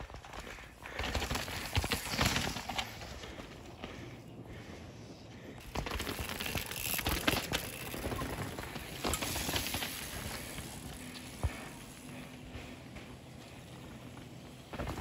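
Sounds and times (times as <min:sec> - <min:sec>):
bike tyres crunching over dirt: 0:00.0 - 0:04.7, 0:05.3 - 0:15.0.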